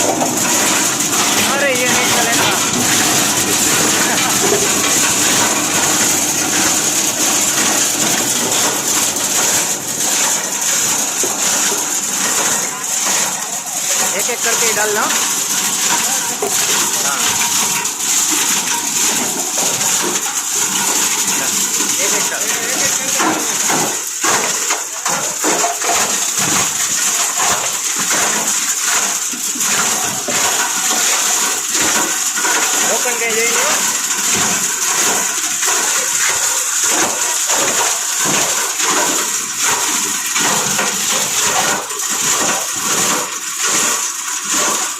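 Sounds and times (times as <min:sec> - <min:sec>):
grinder clatter: 0:00.0 - 0:44.9
plastic grinder whirring: 0:00.0 - 0:44.9.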